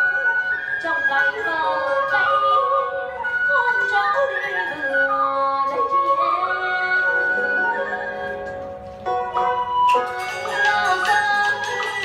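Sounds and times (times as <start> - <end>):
traditional ensemble music: 0.0 - 12.0.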